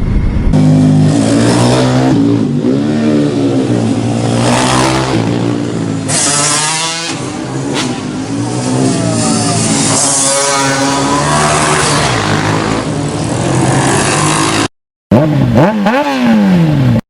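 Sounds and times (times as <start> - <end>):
motorcycle engine revving: 0.2 - 17.0.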